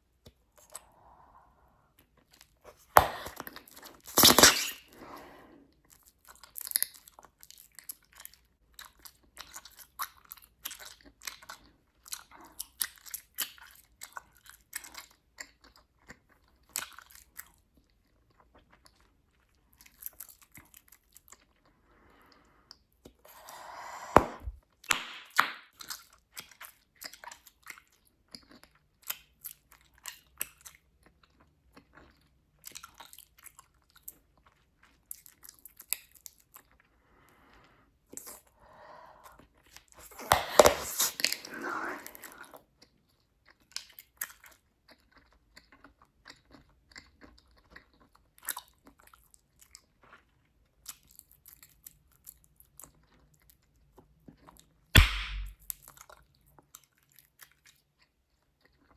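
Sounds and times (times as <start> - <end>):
bubblegum chewing with wet snaps: 5.9 - 58.9.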